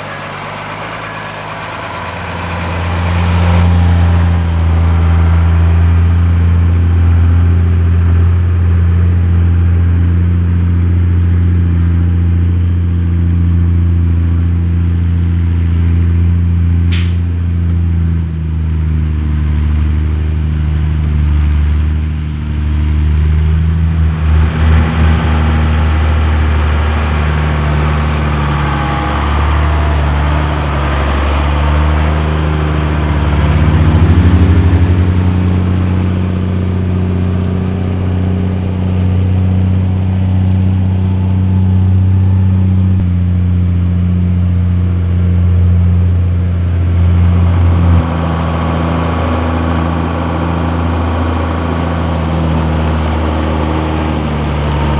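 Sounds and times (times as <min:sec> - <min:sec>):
truck diesel engine driving slowly: 0:00.0 - 0:54.9.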